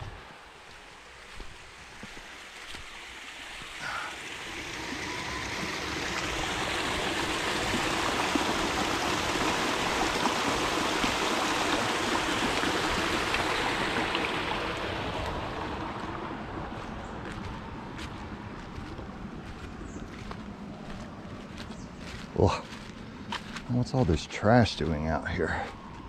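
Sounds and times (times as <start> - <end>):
creek water running: 0.0 - 25.8.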